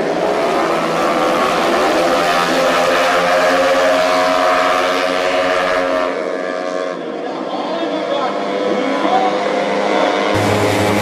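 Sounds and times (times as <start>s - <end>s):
scooter engines revving high: 0.0s - 7.0s, 8.2s - 11.0s.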